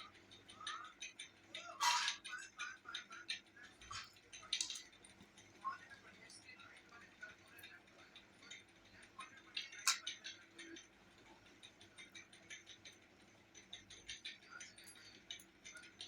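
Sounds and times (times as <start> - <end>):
small clicks and ticks: 0.0 - 16.0.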